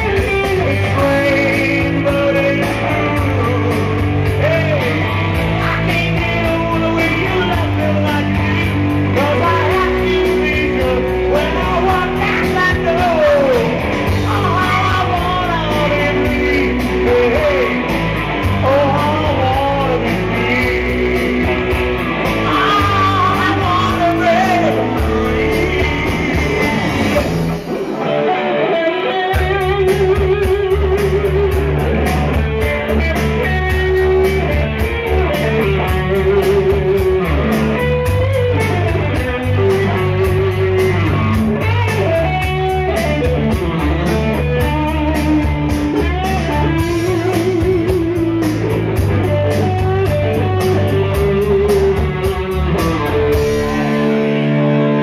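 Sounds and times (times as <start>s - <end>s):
drum kit beat: 0.0s - 55.0s
electric guitars: 0.0s - 55.0s.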